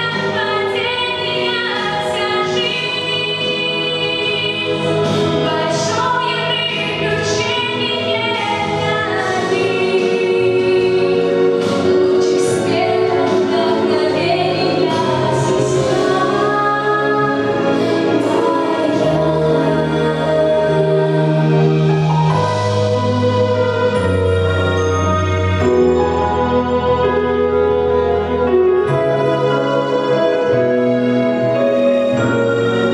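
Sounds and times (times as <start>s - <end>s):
instrumental accompaniment: 0.0s - 32.9s.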